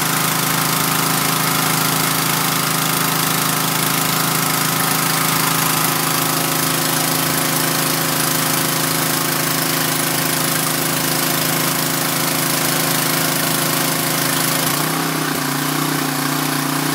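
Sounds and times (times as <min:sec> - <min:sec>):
pressure washer running: 0:00.0 - 0:16.9.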